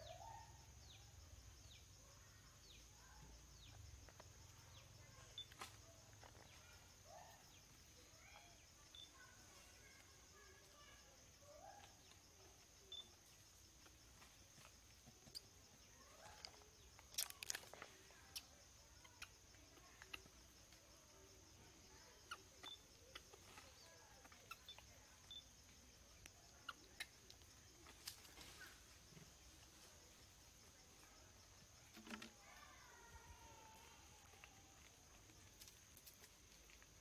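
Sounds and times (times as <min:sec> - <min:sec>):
faint chirps: 0:00.0 - 0:37.0.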